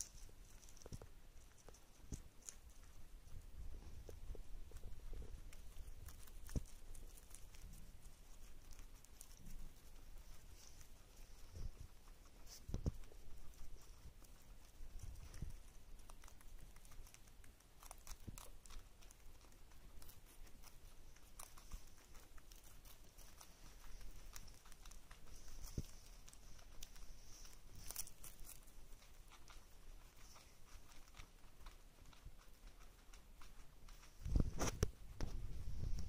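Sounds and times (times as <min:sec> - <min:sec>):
animals chewing leafy greens: 0:00.0 - 0:36.0.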